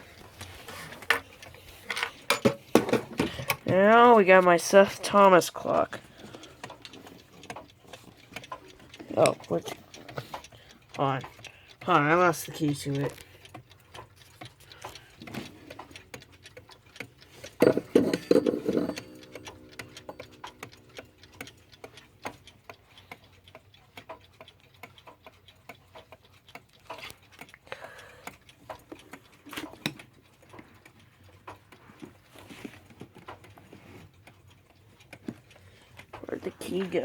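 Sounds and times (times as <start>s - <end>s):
mechanical clocks ticking: 0.0s - 37.0s.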